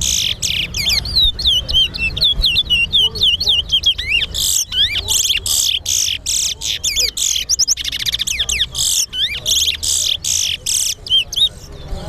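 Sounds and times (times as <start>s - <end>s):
finch singing chirps and whistles: 0.0s - 11.9s.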